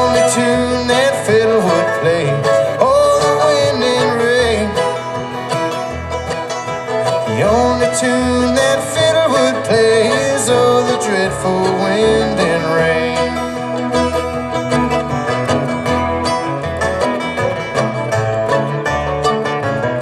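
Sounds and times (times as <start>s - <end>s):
acoustic guitar picking: 0.0s - 20.0s
banjo picking: 0.0s - 20.0s.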